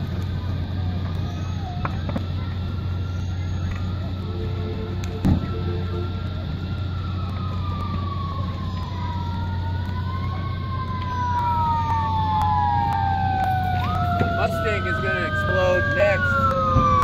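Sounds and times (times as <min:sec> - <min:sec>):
low rumble: 0:00.0 - 0:17.0
sirens wailing: 0:00.0 - 0:17.0.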